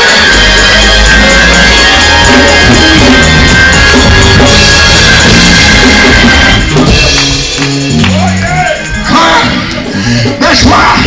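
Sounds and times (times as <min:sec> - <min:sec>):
drum kit steady beat: 0:00.0 - 0:11.0
live church band music: 0:00.0 - 0:11.0.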